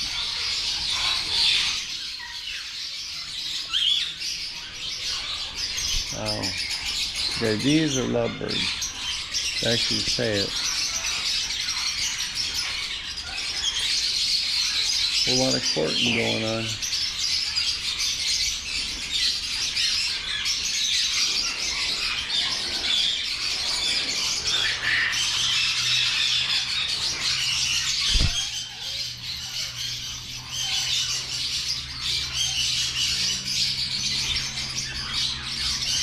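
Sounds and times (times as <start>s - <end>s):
lovebirds chattering: 0.0s - 36.0s.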